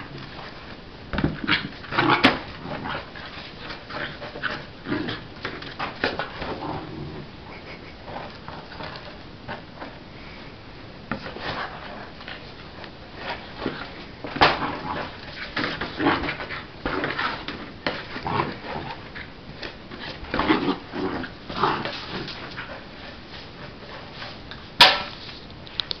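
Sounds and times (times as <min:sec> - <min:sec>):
ball bumping and scuffing on floor: 0:00.0 - 0:06.7, 0:11.0 - 0:25.5.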